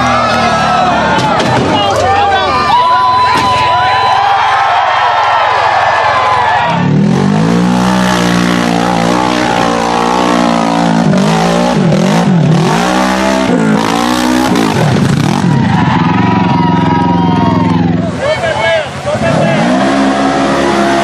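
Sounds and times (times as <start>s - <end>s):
off-road vehicle engine revving: 0.0s - 2.7s, 6.3s - 21.0s.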